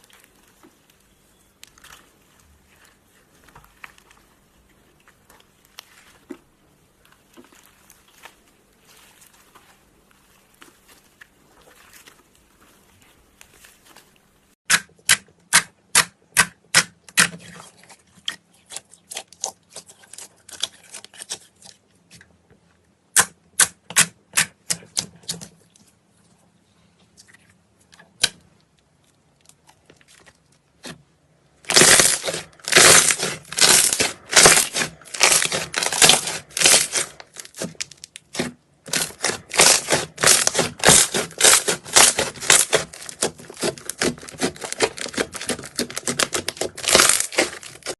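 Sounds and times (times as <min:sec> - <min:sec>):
slime crackling squelches: 0:00.0 - 0:47.9.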